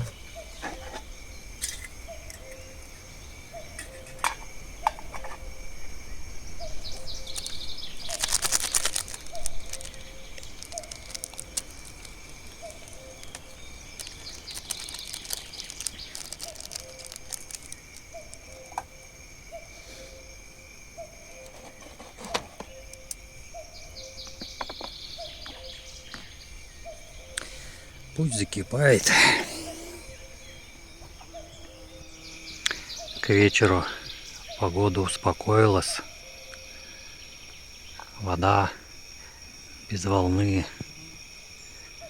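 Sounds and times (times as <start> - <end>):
bird calling: 0.0 - 37.3.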